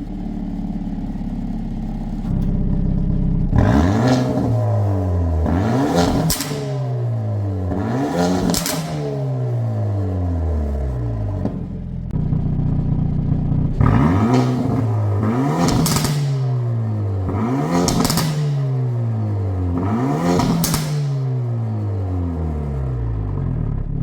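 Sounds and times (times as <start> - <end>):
car engine idling and revving: 0.0 - 24.0
exhaust crackle: 0.0 - 24.0.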